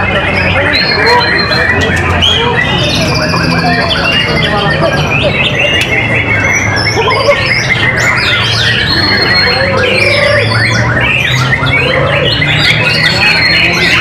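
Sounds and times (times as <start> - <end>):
birds singing whistled phrases: 0.0 - 14.0.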